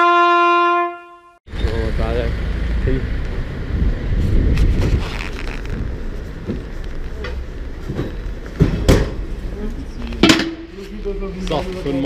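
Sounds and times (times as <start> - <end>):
low street rumble: 1.5 - 12.0.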